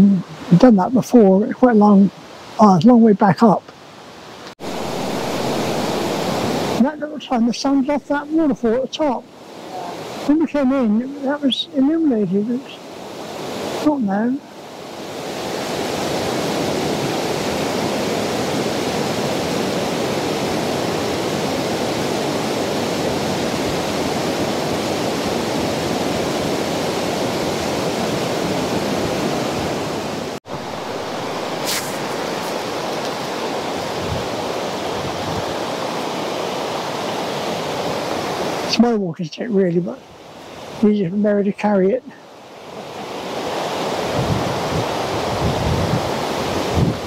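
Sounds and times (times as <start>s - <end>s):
river rushing over rocks: 3.3s - 41.0s, 41.7s - 47.0s.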